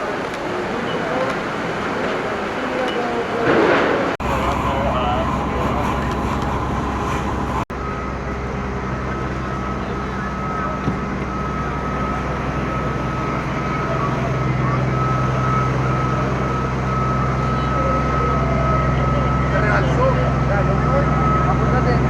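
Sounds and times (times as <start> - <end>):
fire engine running: 0.0 - 22.0
high whine: 2.3 - 22.0.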